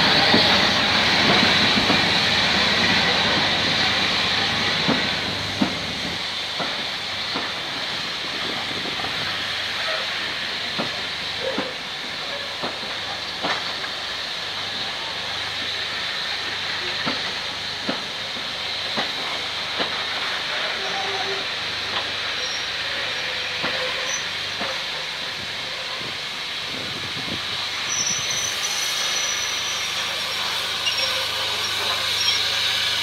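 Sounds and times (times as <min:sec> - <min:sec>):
steady hiss of steam: 0:00.0 - 0:33.0
train coaches rolling past: 0:00.0 - 0:33.0.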